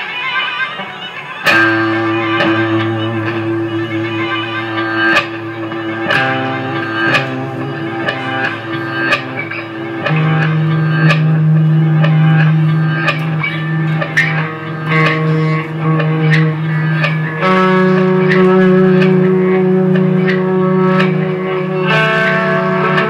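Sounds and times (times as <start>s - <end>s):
electric guitar strummed chords: 0.0s - 23.0s.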